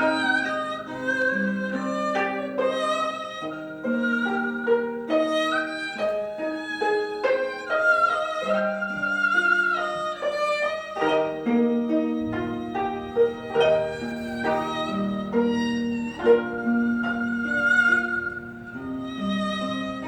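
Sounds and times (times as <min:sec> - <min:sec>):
bowed fiddle melody: 0:00.0 - 0:20.0
plucked zither: 0:00.0 - 0:20.0.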